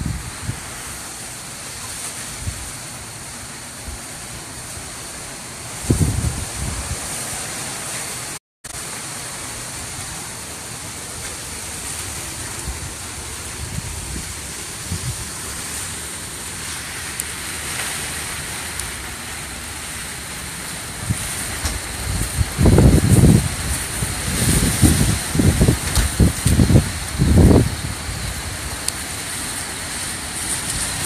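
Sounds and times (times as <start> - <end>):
wind gusts buffeting microphone: 0.0 - 1.2, 1.8 - 5.1, 5.7 - 7.8, 11.0 - 31.0
hurricane wind rushing: 0.0 - 31.0.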